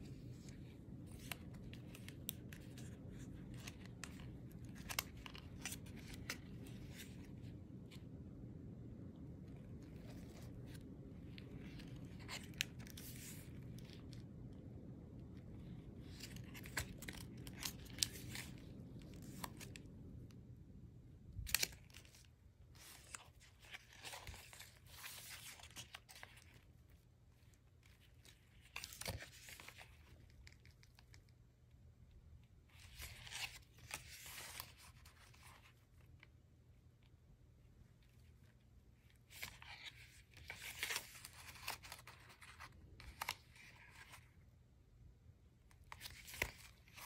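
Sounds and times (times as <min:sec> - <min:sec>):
paper pages crinkling and rustling: 0:00.0 - 0:08.2, 0:09.4 - 0:14.6, 0:15.2 - 0:20.0, 0:21.3 - 0:31.4, 0:32.6 - 0:36.4, 0:38.0 - 0:44.6, 0:45.7 - 0:47.0.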